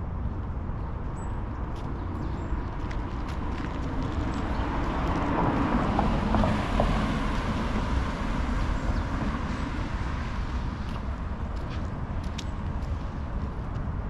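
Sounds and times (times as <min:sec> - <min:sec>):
vehicle passing rumble: 0:02.1 - 0:13.8.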